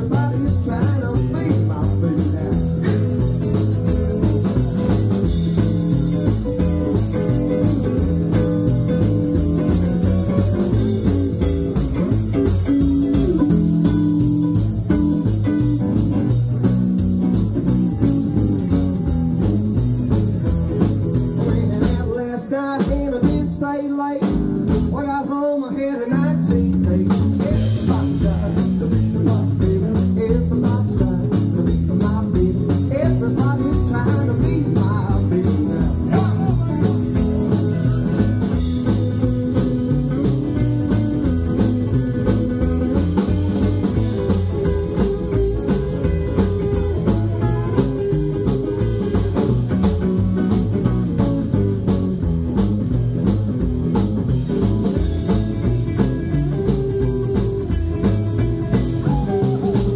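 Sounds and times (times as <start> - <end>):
upright double bass: 0.0 - 22.3, 26.1 - 59.9
drums keeping a beat: 0.0 - 59.9
electric guitars: 0.0 - 59.9.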